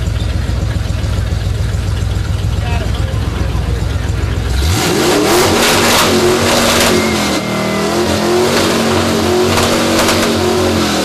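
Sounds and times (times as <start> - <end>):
pickup engine revving high: 0.0 - 11.0.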